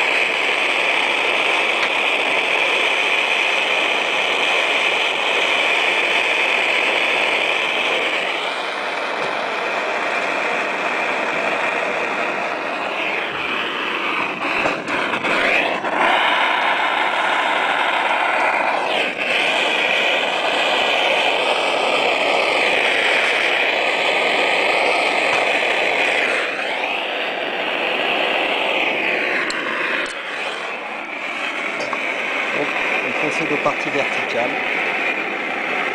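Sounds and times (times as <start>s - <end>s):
soldering iron hissing: 0.0s - 35.9s.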